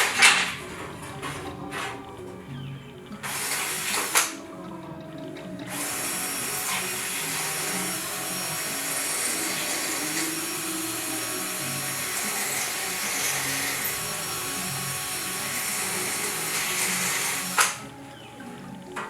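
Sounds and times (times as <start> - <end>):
power drill running: 0.0 - 19.0.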